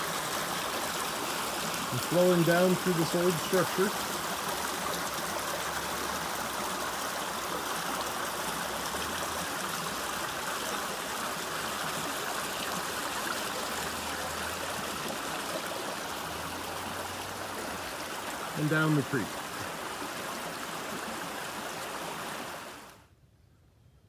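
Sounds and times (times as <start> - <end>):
creek flowing: 0.0 - 23.1.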